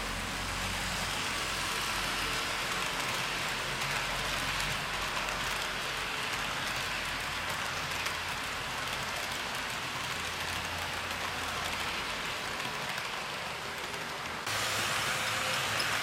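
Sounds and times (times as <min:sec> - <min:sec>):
model train wheels on rail: 0:00.0 - 0:16.0.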